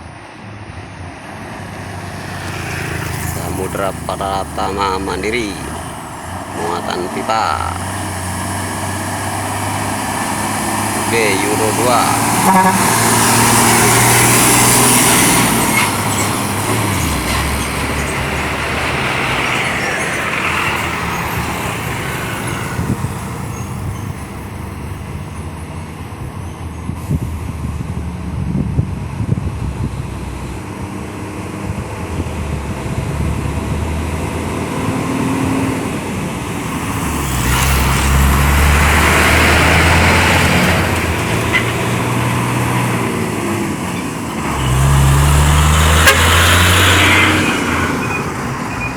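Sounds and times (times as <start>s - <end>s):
diesel trucks labouring uphill: 0.0s - 48.9s.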